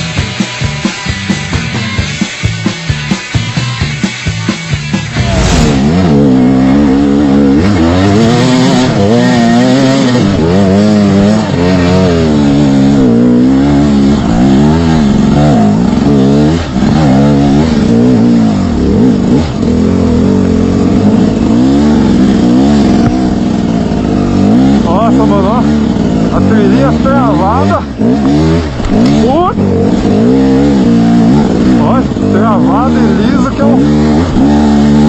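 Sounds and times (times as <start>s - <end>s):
motorcycle engine revving: 0.0s - 35.0s
rock music: 0.0s - 35.0s.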